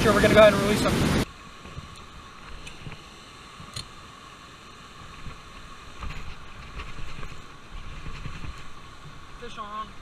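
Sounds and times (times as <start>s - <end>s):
rushing spillway water: 0.0s - 10.0s.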